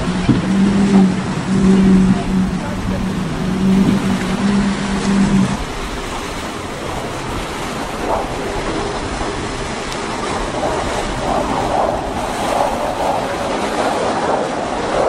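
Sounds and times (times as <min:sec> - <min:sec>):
choppy surf: 0:00.0 - 0:15.0
outboard motors droning: 0:00.0 - 0:15.0
wind: 0:00.0 - 0:15.0.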